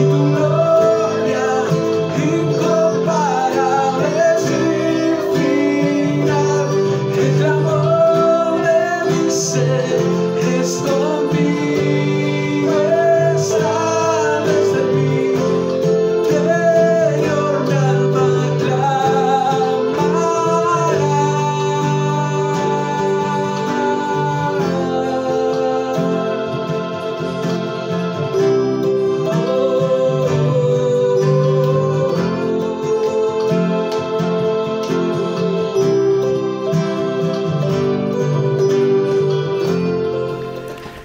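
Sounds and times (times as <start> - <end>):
electronic keyboard chords: 0.0 - 41.0
man singing: 0.0 - 41.0
strummed acoustic guitar: 0.0 - 41.0.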